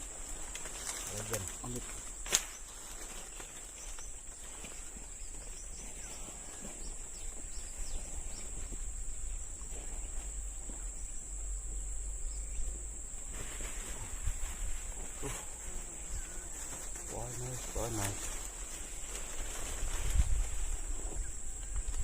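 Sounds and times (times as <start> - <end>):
rustling: 0.0 - 11.0, 12.6 - 22.0
high-pitched insect chorus: 0.0 - 22.0.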